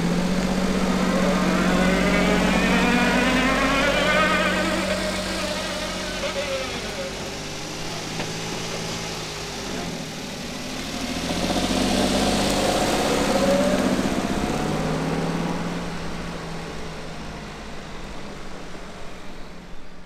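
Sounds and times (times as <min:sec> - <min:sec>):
small truck driving past: 0:00.0 - 0:19.3.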